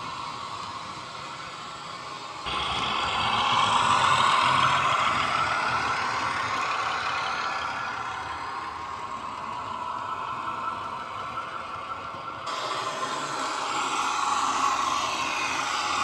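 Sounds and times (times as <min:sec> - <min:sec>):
model train diesel engine sound: 0:00.0 - 0:16.0.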